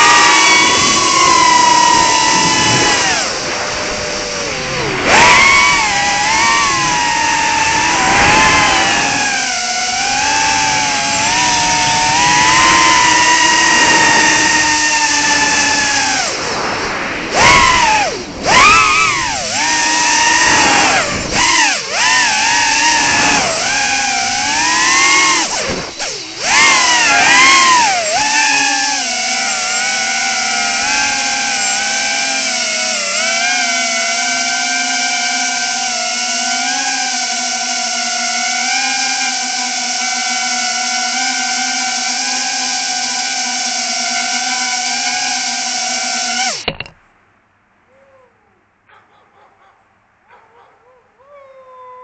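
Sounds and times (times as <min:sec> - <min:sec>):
quadcopter motors whining: 0:00.0 - 0:47.0.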